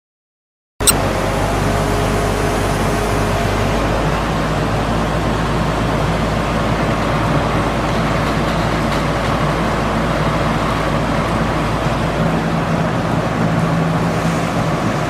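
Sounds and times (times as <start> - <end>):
piling rig engine drone: 0.9 - 15.0.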